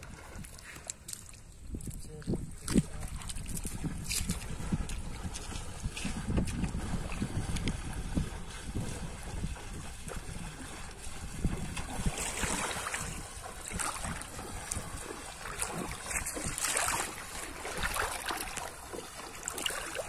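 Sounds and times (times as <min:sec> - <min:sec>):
feet splashing through water: 0:00.0 - 0:20.0.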